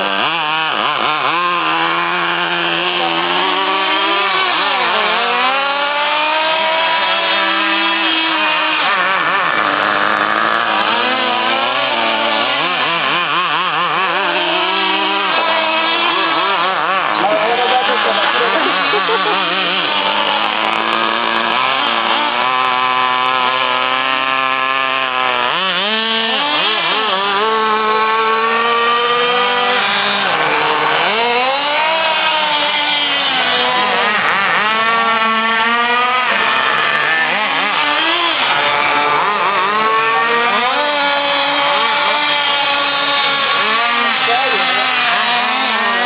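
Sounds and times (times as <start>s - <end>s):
small two-stroke engine revving: 0.0s - 46.0s.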